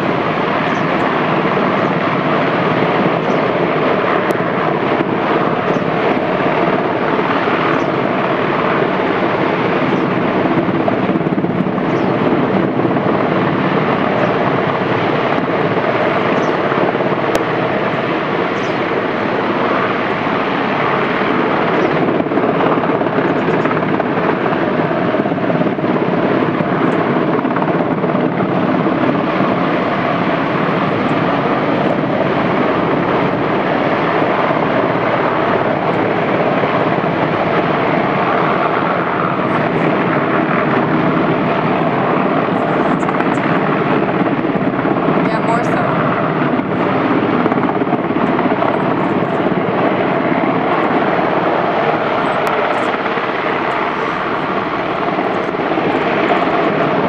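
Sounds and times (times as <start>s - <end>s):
helicopter hovering: 0.0s - 57.0s.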